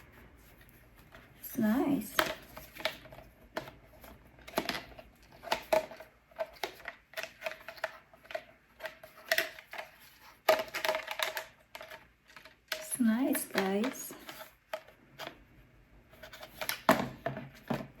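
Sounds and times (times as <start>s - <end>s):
plastic items clicking and tapping: 1.9s - 15.4s, 16.1s - 18.0s.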